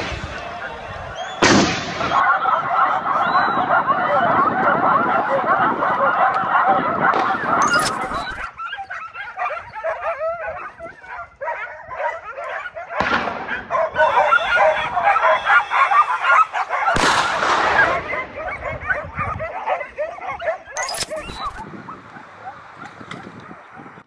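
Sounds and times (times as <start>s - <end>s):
dogs yelping and baying: 2.0s - 24.0s.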